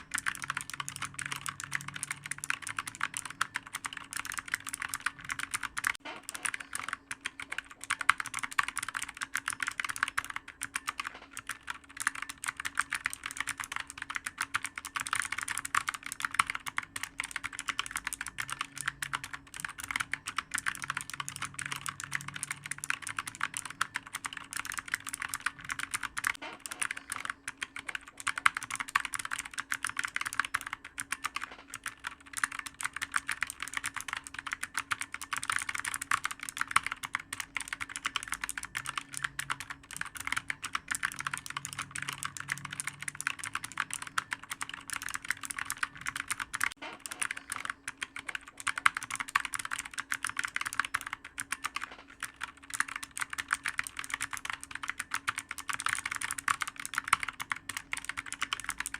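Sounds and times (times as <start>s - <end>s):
fast typing on clicky keyboard: 0.0s - 58.9s.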